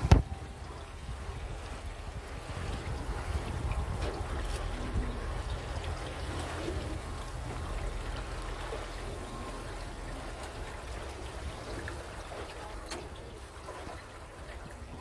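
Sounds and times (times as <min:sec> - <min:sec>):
low rumble: 0:00.0 - 0:12.4
water lapping against boat hull: 0:00.0 - 0:15.0.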